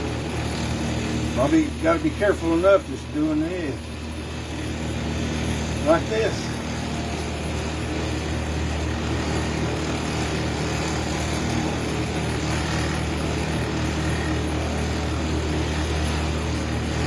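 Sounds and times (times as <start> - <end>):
wood lathe running: 0.0 - 17.0.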